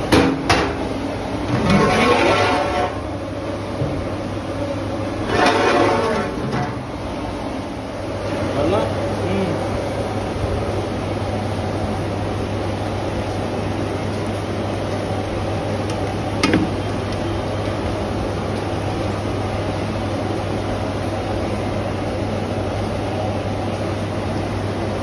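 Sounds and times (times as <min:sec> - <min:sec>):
pot boiling hard: 0:00.0 - 0:25.0.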